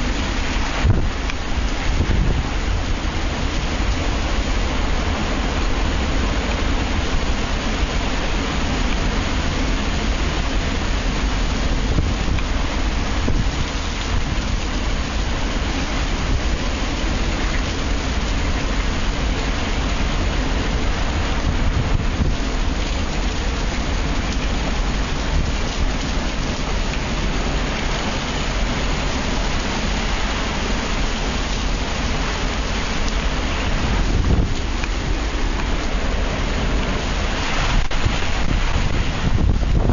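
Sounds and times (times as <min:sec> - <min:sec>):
heavy rain rushing: 0:00.0 - 0:39.9
wind rumble on microphone: 0:00.0 - 0:39.9.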